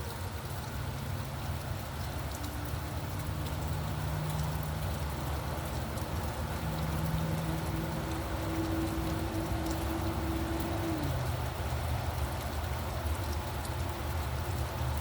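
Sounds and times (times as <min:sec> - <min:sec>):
raindrop ticks: 0:00.0 - 0:15.0
steady rain falling: 0:00.0 - 0:15.0
vehicle engine low hum: 0:00.0 - 0:15.0
passing road traffic: 0:00.8 - 0:15.0.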